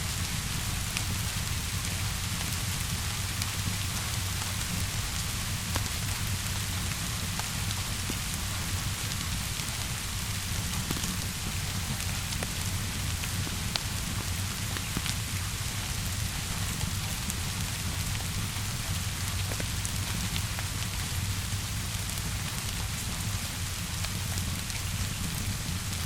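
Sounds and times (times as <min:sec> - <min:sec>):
steady rainfall: 0:00.0 - 0:26.0
wood fire crackling: 0:00.1 - 0:26.0.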